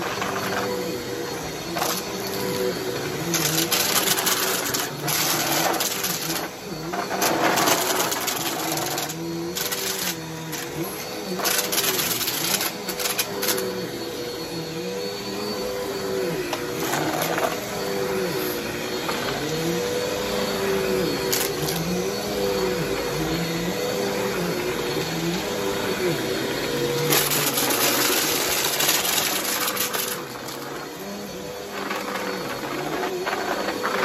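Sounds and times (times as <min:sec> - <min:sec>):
vacuum cleaner motor hum: 0:00.0 - 0:34.0.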